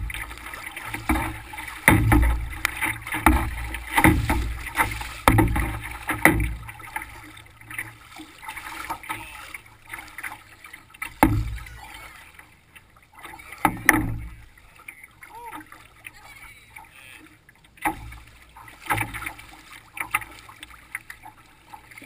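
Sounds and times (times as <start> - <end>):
waves splashing against a canoe: 0.0 - 22.0.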